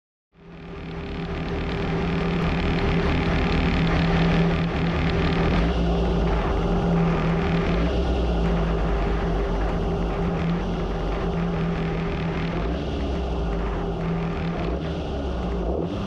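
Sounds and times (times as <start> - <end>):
racing car engine idling: 0.4 - 16.0.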